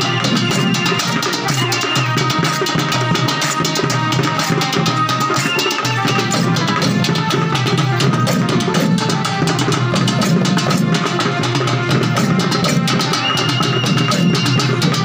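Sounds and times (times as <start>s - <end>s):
barrel drums beaten in fast rhythm: 0.0s - 15.0s.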